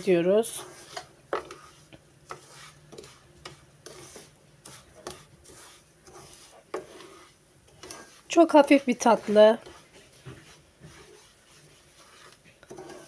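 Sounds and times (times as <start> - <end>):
wooden spoon scraping pan: 0.0 - 13.0.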